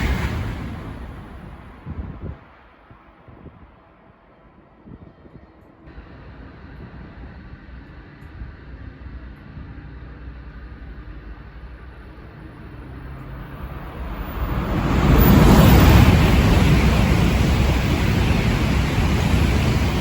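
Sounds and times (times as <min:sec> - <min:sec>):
high-speed train rushing past: 0:00.0 - 0:04.4, 0:05.8 - 0:20.0.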